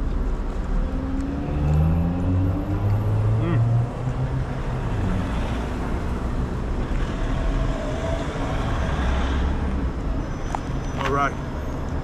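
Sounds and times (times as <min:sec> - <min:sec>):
street traffic going by: 0:00.0 - 0:12.0
vehicle engines rumbling: 0:00.0 - 0:12.0.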